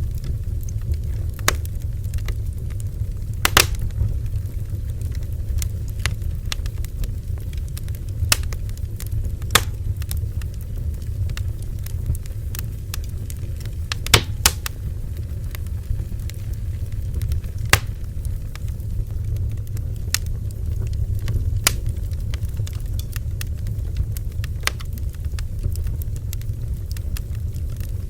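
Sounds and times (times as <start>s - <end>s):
crackles and pops of burning wood: 0.0s - 28.0s
roar of bonfire flames: 0.0s - 28.0s.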